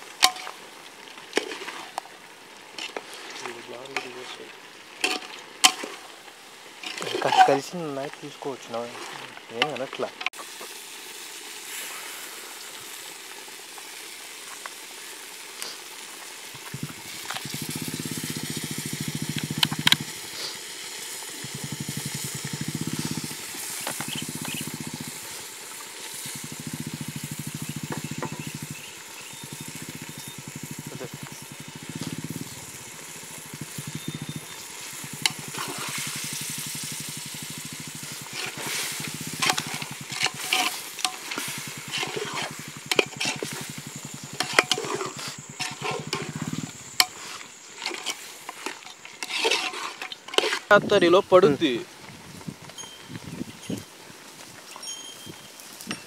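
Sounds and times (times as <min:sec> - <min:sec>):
curry simmering and sizzling: 0:00.0 - 0:52.8.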